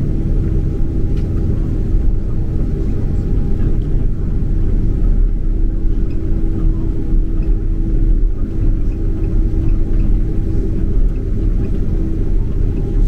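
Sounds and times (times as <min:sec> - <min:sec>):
airliner cabin rumble: 0:00.0 - 0:13.0
steady hum: 0:00.0 - 0:13.0.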